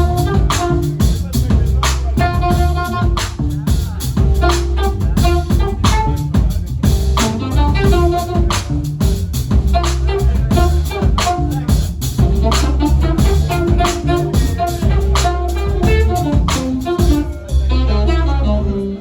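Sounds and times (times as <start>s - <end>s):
drum kit groove: 0.0s - 18.0s
electric bass line: 0.0s - 19.0s.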